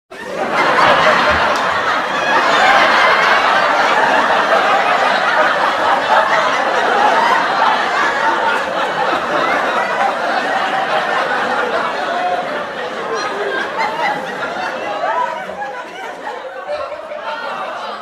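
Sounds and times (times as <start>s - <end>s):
studio audience laughing: 0.1s - 18.0s.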